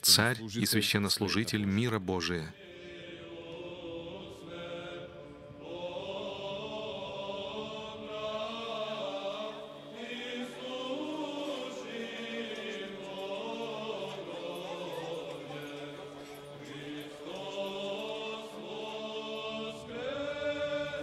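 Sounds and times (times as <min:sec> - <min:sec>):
choir chanting in harmony: 0:02.5 - 0:21.0.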